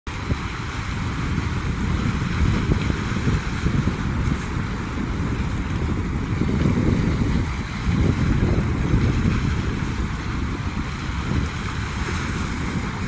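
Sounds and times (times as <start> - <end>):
choppy water hissing: 0.1 - 13.0
wind buffeting microphone: 0.1 - 13.0.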